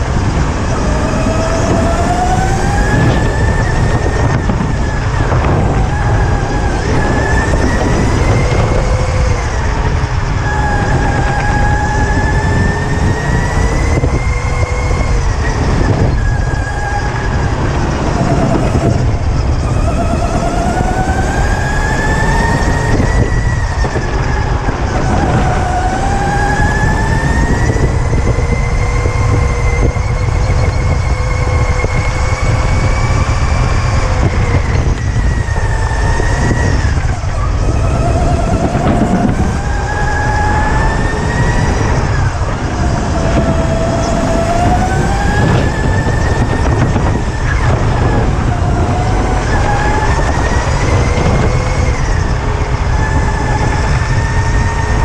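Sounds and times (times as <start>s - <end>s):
electric go-kart motor whining: 0.0s - 55.0s
heavy low rumble: 0.0s - 55.0s.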